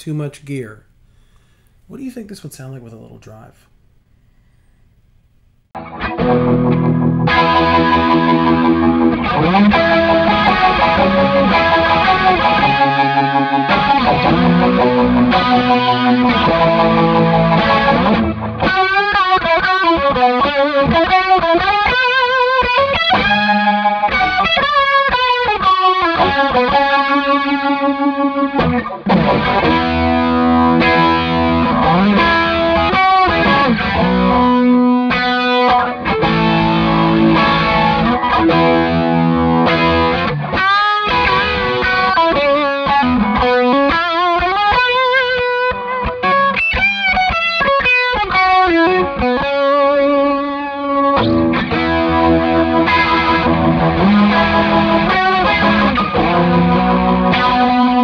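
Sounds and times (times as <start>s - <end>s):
electric guitar with rotary effect: 4.0s - 58.0s.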